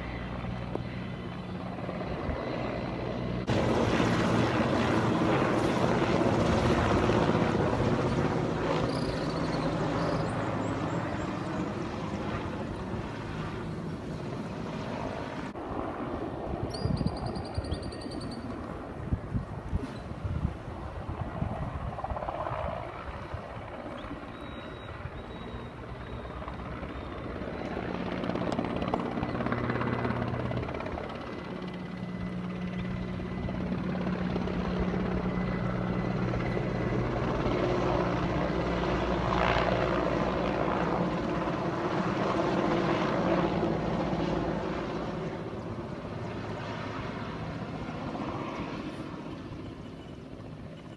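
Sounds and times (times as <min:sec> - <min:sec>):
helicopter flying past: 0:00.0 - 0:50.9.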